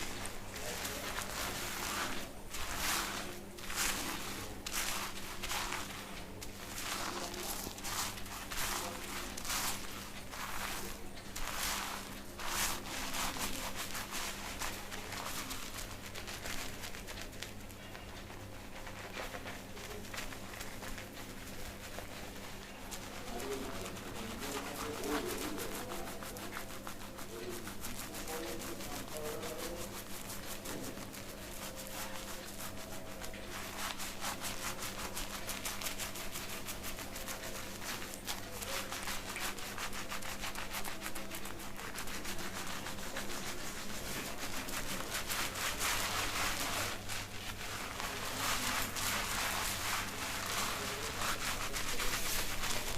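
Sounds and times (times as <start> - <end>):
fingers scrubbing lathered scalp: 0.0 - 52.9.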